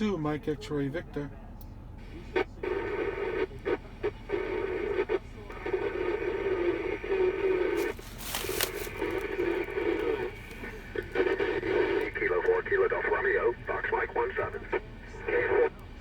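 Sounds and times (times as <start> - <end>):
garbled radio signal: 2.0 - 16.0
radio hiss: 2.0 - 16.0.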